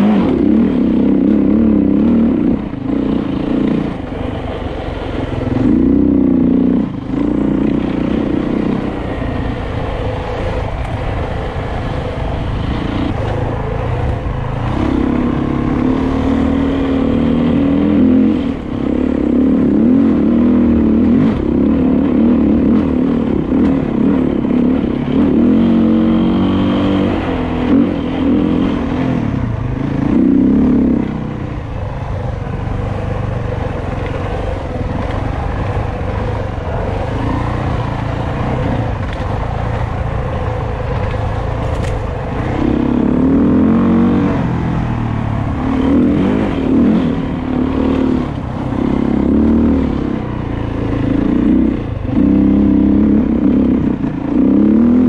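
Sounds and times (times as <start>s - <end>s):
dirt bike engine revving: 0.0s - 31.4s, 32.9s - 55.0s
chassis and trail clatter: 0.0s - 55.0s.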